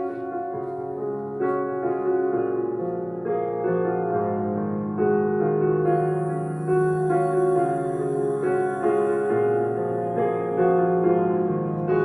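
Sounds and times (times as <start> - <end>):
slow meditative piano music: 0.0 - 12.0.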